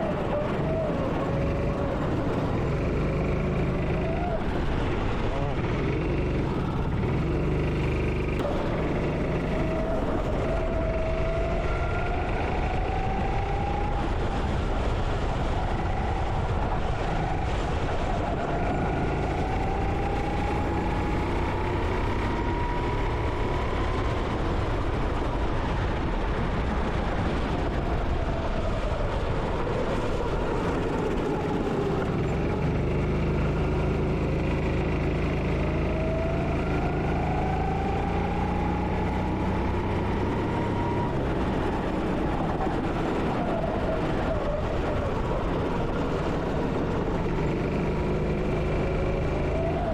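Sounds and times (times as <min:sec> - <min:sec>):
go-kart engine: 0:00.0 - 0:49.9
steady rushing noise: 0:00.0 - 0:49.9.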